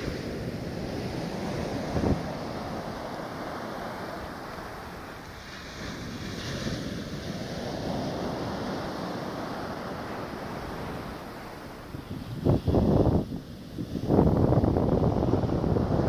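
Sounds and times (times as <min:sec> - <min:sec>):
waves washing up beach: 0:00.0 - 0:16.0
wind buffeting microphone: 0:00.0 - 0:16.0.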